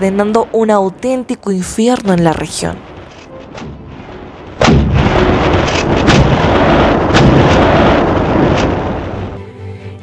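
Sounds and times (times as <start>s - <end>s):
artillery blasts: 0.0s - 9.4s
rumble of explosions: 0.0s - 9.5s.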